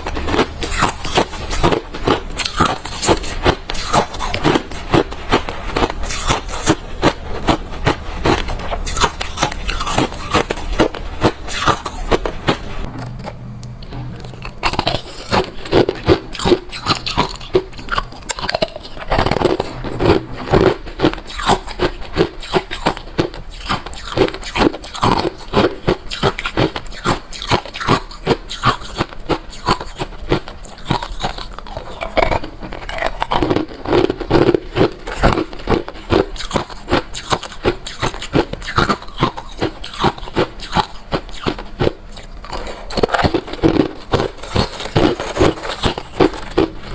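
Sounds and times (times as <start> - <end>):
crunchy chewing of ice: 0.0 - 12.9, 14.2 - 46.9.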